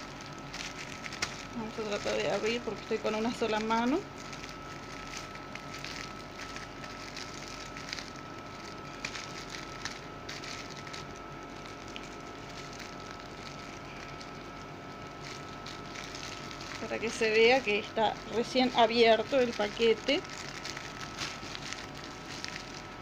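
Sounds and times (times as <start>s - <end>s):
faint high hum: 0.0s - 23.0s
plastic bag crinkling: 0.0s - 23.0s.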